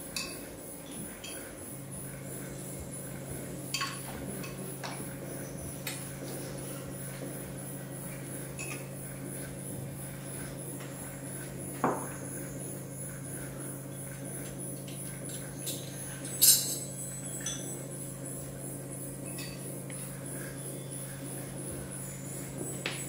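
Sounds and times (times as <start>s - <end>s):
electronic held tones humming: 0.0s - 23.0s.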